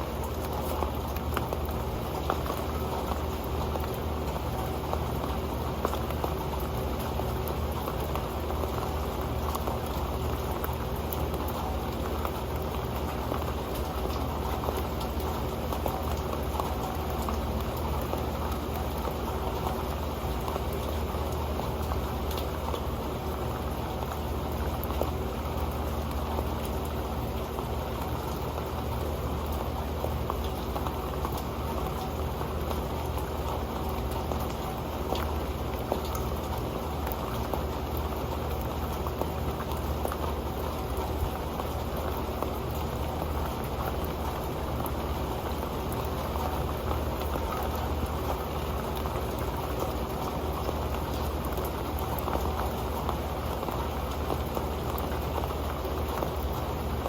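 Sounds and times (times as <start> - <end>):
rain falling on a pan: 0.0 - 57.0.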